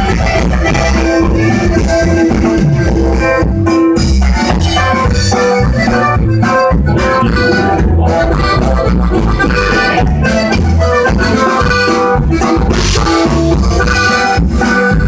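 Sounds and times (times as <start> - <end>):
accordion melody: 0.0 - 15.0
drum kit beat: 0.0 - 15.0.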